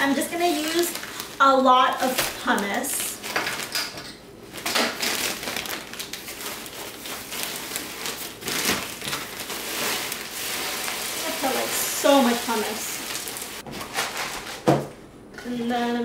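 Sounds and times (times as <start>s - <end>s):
plastic bag crinkling: 0.0s - 14.6s.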